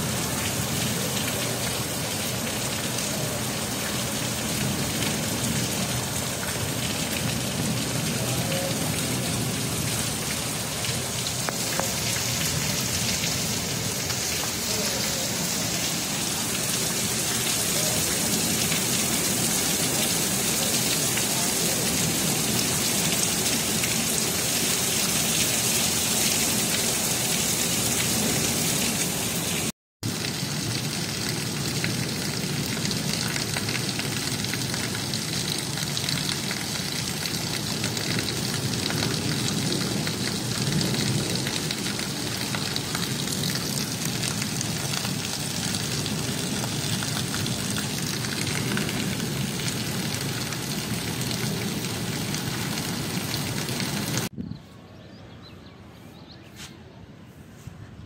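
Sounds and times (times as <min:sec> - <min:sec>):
heavy rain on flooded street: 0:00.0 - 0:54.4.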